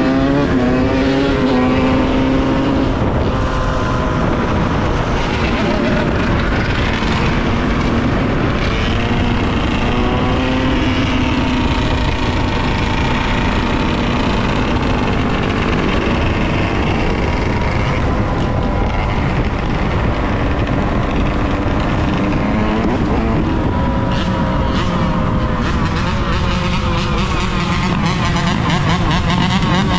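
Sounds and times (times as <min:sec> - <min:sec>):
dirt bike engine revving: 0:00.0 - 0:29.9
wind noise on microphone: 0:00.0 - 0:29.9.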